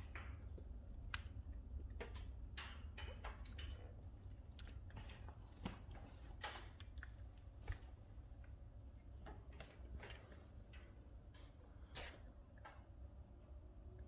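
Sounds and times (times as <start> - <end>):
low steady stove rumble: 0.0 - 14.0.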